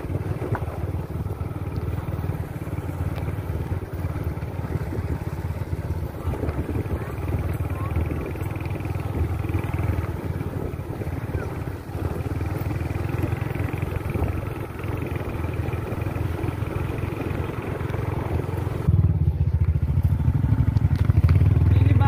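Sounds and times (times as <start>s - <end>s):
motorcycle engine running: 0.0s - 22.0s
road and wind hiss: 0.0s - 22.0s.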